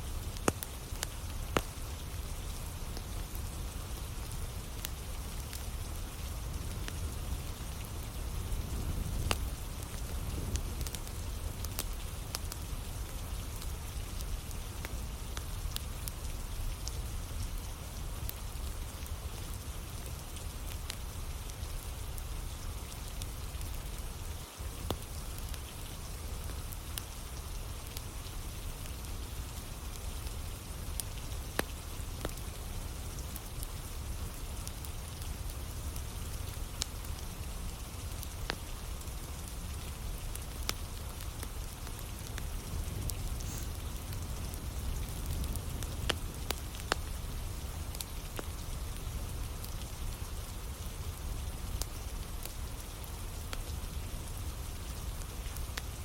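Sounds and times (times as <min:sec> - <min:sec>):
campfire crackling: 0:00.0 - 0:56.0
rain falling: 0:00.0 - 0:56.0.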